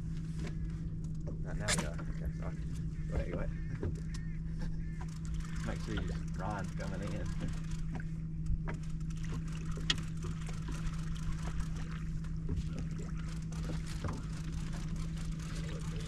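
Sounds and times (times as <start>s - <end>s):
boat motor humming: 0.0s - 16.0s
low rumble: 0.0s - 16.0s
faint knocks and clicks: 0.4s - 16.0s.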